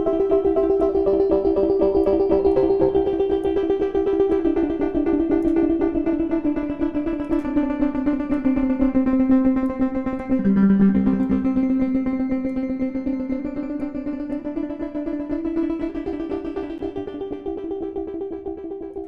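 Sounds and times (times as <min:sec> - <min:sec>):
plucky synthesizer chords: 0:00.0 - 0:17.6.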